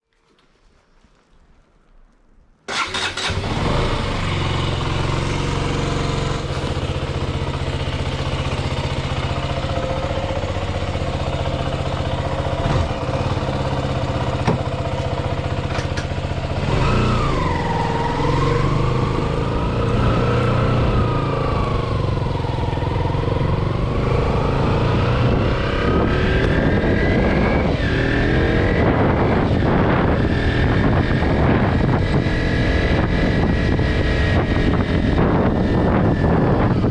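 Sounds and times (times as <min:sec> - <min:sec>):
motorcycle engine idling and revving: 0:02.7 - 0:36.9.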